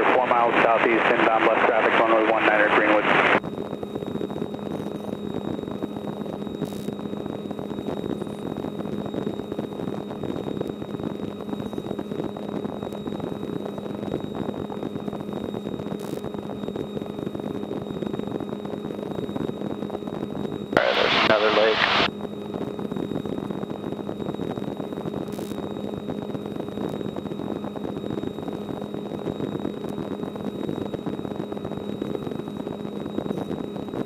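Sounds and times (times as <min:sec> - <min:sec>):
faint high whine: 0:00.0 - 0:34.0.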